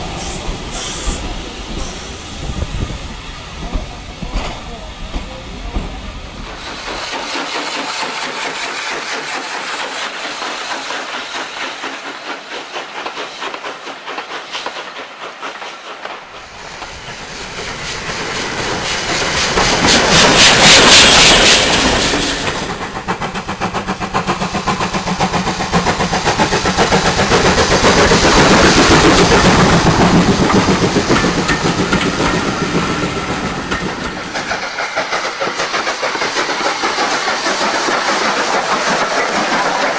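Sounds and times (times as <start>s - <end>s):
model trains rattling on track: 0.0s - 39.9s.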